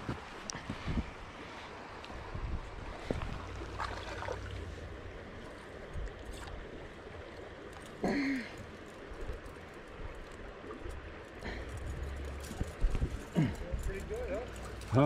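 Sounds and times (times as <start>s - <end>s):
creek water trickling over rocks: 0.0s - 15.0s.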